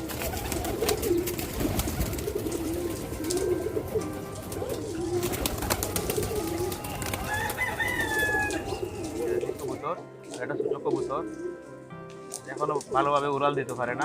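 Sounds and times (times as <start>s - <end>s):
pigeons cooing: 0.0s - 11.8s.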